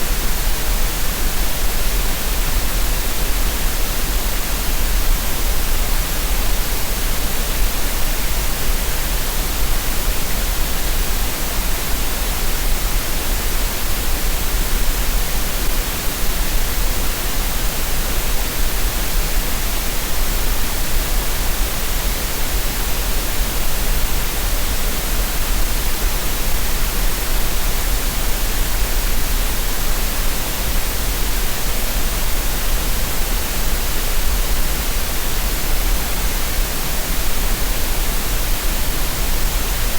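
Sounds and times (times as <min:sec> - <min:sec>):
steady green noise hiss: 0:00.0 - 0:39.9.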